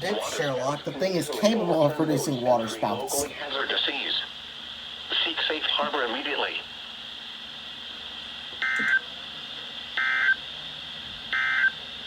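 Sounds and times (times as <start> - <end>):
steady radio hiss: 0.0 - 11.0.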